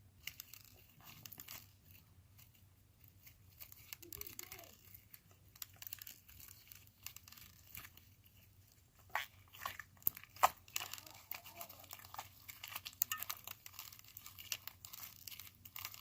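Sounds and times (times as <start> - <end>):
crinkling and crackling: 0.0 - 16.0.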